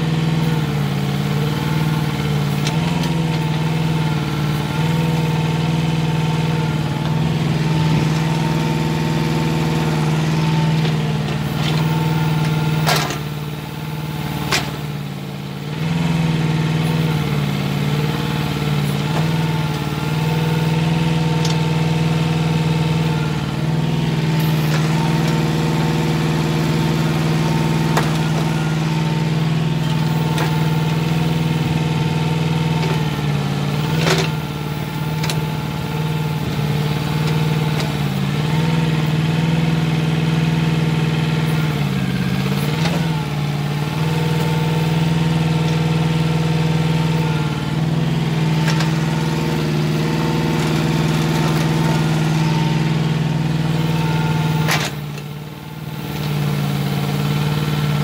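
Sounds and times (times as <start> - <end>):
mini excavator engine running: 0.0 - 58.0.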